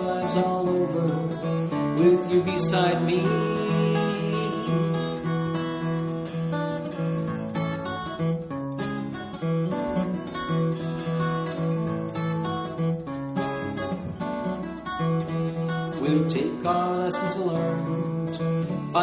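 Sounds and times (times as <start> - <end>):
acoustic guitar strummed and picked: 0.0 - 19.0.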